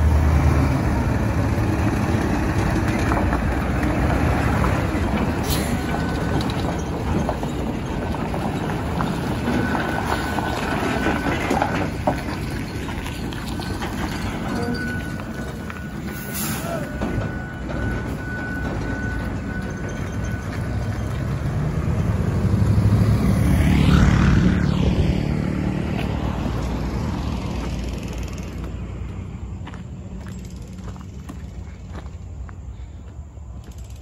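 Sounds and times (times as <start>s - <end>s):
heavy trucks driving by: 0.0s - 34.0s.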